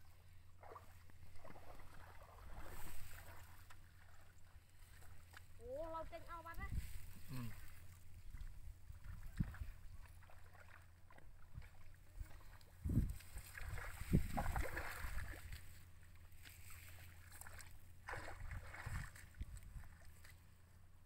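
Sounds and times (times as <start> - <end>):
hands splashing in muddy water: 0.6 - 5.5, 6.8 - 20.5.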